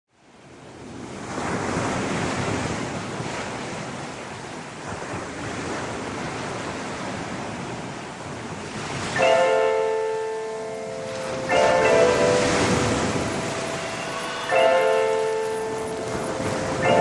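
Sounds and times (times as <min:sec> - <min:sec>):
sea surf washing against rocks: 0:00.8 - 0:17.0.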